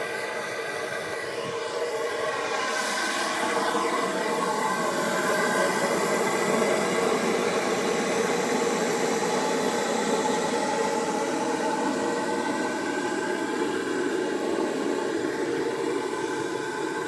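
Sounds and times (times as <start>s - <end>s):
oil burner rushing: 0.0s - 17.0s.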